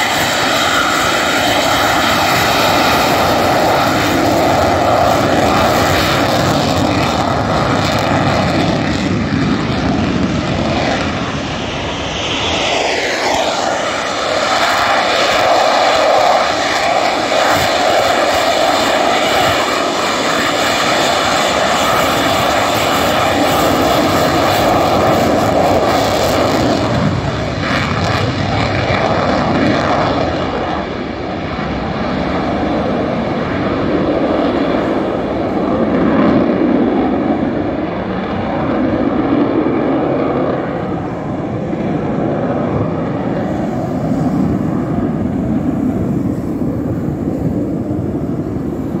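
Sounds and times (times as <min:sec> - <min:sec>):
jet engine roar: 0:00.0 - 0:49.0.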